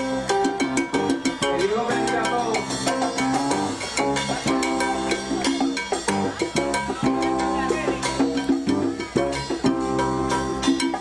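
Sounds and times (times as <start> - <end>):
drums and percussion beat: 0.0 - 11.0
salsa band playing: 0.0 - 11.0.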